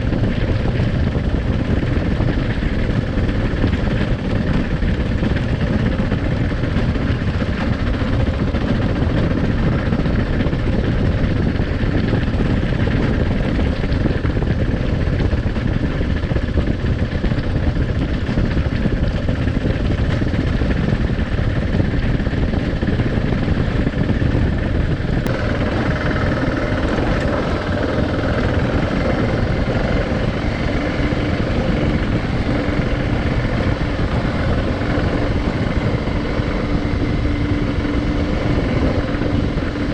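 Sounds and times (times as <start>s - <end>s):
motorcycle engine running: 0.0s - 39.9s
road noise: 0.0s - 39.9s
wind buffeting: 0.0s - 39.9s.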